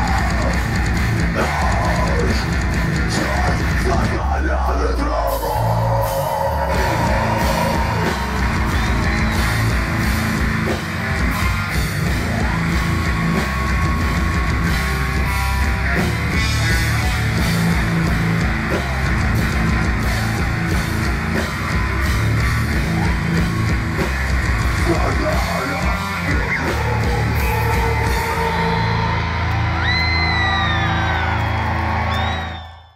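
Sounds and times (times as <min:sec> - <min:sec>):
live metal band playing: 0:00.0 - 0:32.4.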